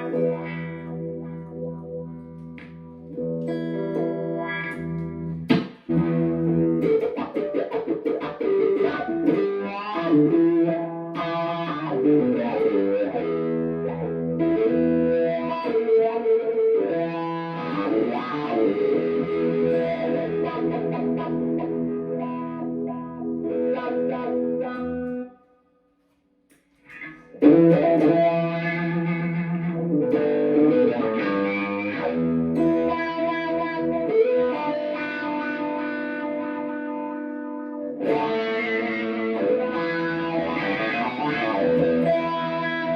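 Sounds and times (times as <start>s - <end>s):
electric guitar with wah pedal: 0.0s - 25.3s, 26.9s - 42.9s.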